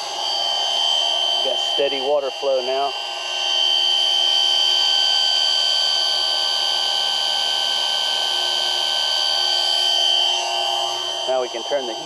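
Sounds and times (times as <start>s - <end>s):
water pump whine: 0.0s - 12.0s.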